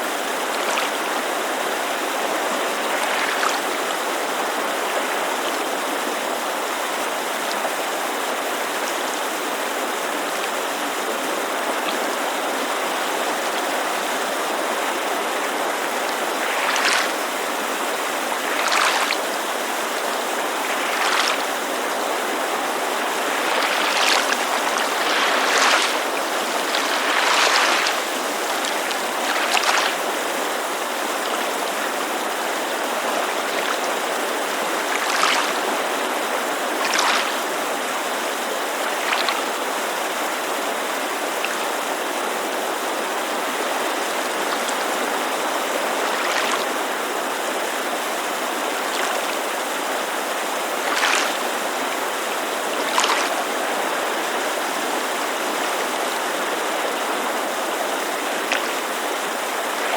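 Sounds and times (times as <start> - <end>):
creek rushing: 0.0 - 59.9
water lapping at shore: 0.0 - 59.9.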